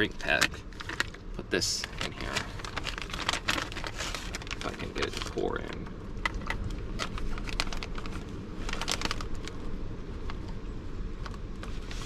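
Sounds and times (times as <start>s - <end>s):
plastic bag crinkling: 0.0s - 9.8s
low wind rumble: 0.0s - 12.0s.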